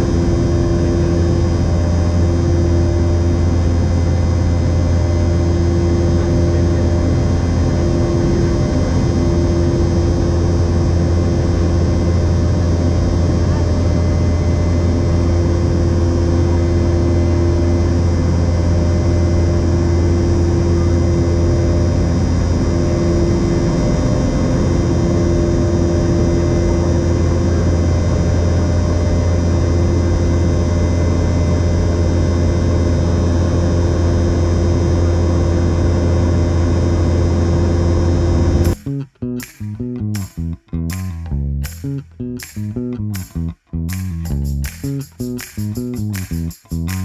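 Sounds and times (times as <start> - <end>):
airplane cabin engine drone: 0.0 - 38.8.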